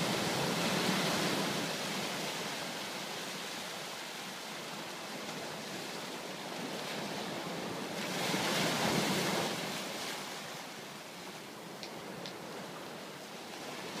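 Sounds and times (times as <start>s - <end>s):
waves washing up a sandy beach: 0.0s - 14.0s.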